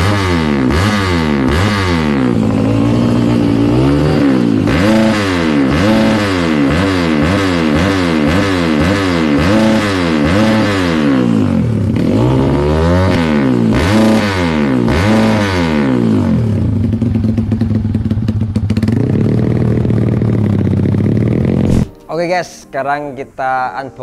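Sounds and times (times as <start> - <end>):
motorcycle idling: 0.0 - 21.9
motorcycle revving: 0.0 - 22.0.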